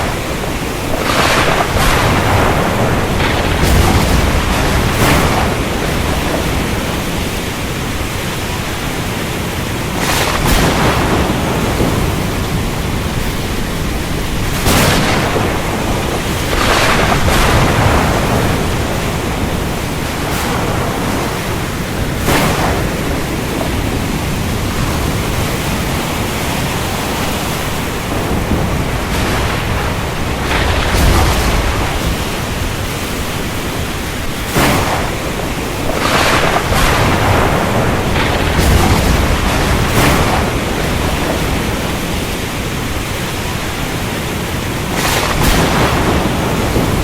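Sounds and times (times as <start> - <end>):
deep thunder rumble: 0.0 - 47.0
heavy rain: 0.0 - 47.0
thunder cracks: 0.0 - 47.0.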